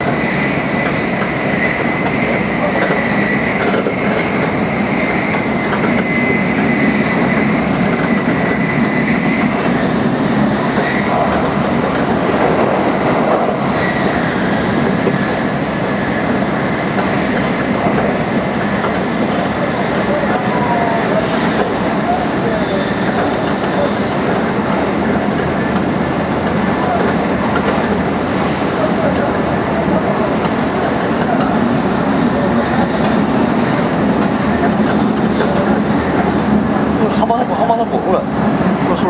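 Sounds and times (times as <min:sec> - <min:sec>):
train running at high speed: 0:00.0 - 0:39.0.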